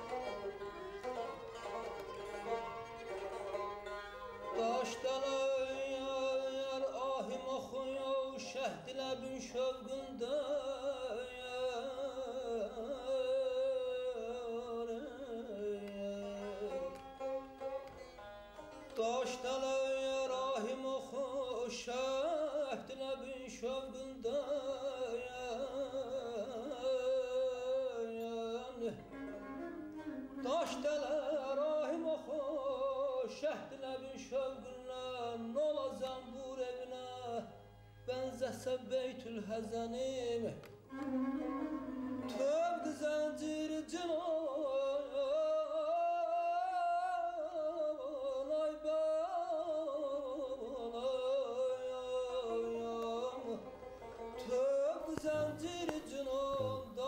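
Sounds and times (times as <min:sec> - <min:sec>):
string accompaniment: 0:00.0 - 0:57.0
man singing melismas: 0:04.5 - 0:17.1, 0:18.9 - 0:29.4, 0:30.4 - 0:53.8, 0:54.4 - 0:57.0.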